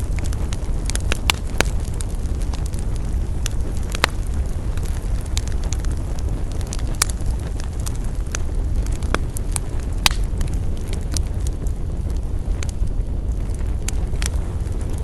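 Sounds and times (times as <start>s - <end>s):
campfire crackling: 0.0s - 15.0s
low rumble: 0.0s - 15.0s
sharp fire pops: 0.0s - 15.0s.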